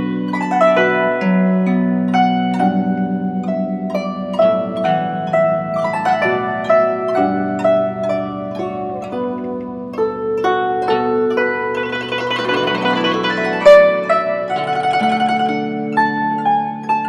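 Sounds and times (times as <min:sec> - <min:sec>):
plucked harp-like melody: 0:00.0 - 0:17.0.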